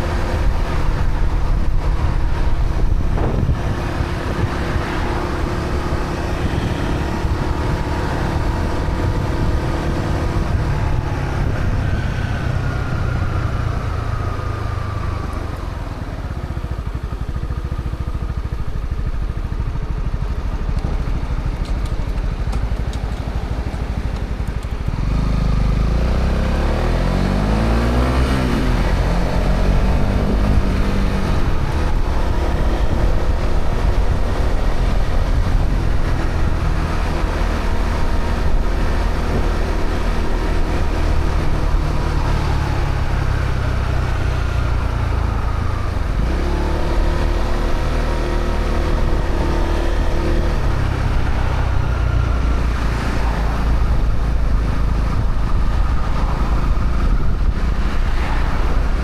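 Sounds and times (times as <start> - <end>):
motorcycle engine revving: 0.0 - 15.5, 16.6 - 59.0.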